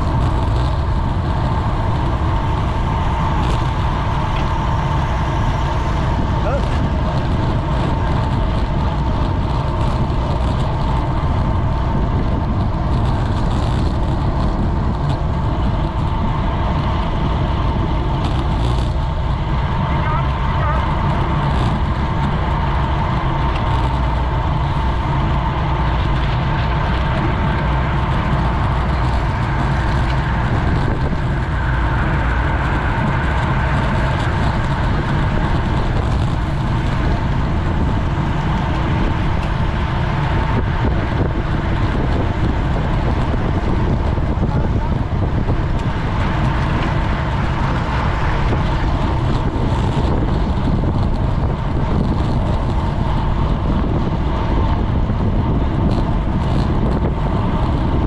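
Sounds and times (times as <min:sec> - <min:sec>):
bicycle tyre and road noise: 0:00.0 - 0:58.0
wind rush on microphone: 0:00.0 - 0:58.0.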